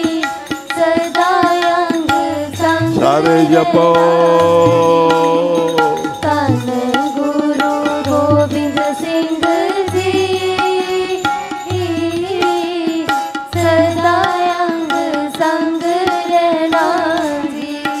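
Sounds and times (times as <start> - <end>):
person singing melodically: 0.0 - 18.0
tabla beats: 0.0 - 18.0.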